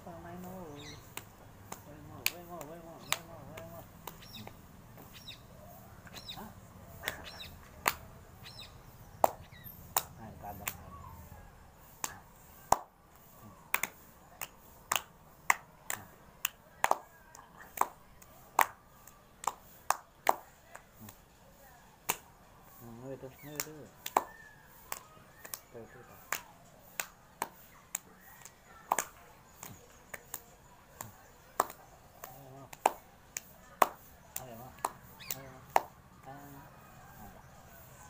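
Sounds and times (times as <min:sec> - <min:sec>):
birds chirping: 0:00.0 - 0:19.4, 0:20.5 - 0:38.0
hand clapping game: 0:00.3 - 0:05.2, 0:06.0 - 0:08.2, 0:09.2 - 0:21.3, 0:22.0 - 0:37.9.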